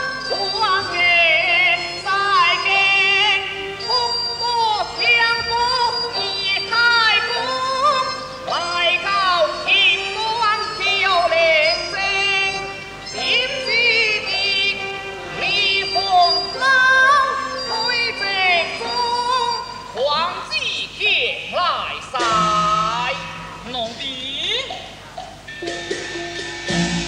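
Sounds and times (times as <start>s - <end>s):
instrumental accompaniment: 0.0s - 20.5s, 22.1s - 27.0s
solo voice singing with vibrato: 0.0s - 24.6s.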